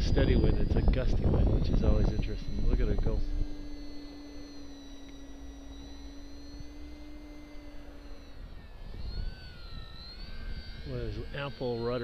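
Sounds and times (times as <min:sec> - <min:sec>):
wind rumble on microphone: 0:00.0 - 0:05.0, 0:05.9 - 0:12.0
model plane motor whining: 0:00.0 - 0:12.0.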